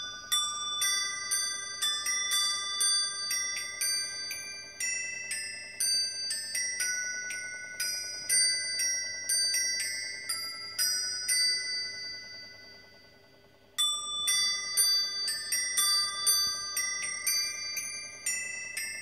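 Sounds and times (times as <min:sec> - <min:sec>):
electronic bells playing a carol: 0:00.0 - 0:19.0.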